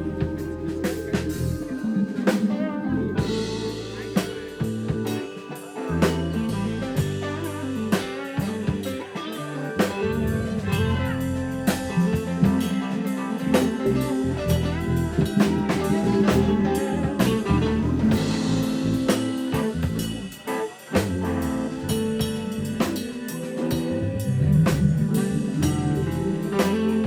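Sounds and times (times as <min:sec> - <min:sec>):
live band playing: 0:00.0 - 0:27.0
drums hitting steadily: 0:03.2 - 0:27.0.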